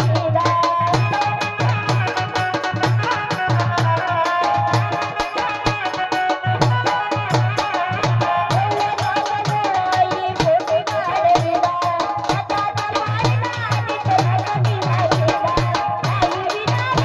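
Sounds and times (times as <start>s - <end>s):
rhythmic drum beat: 0.0s - 17.0s.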